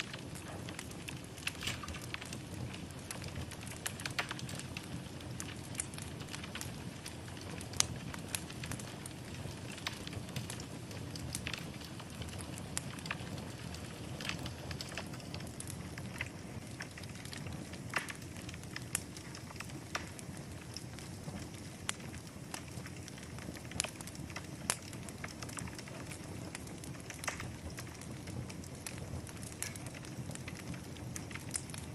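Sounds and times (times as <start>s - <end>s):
wood fire crackling and popping: 0.0s - 31.9s.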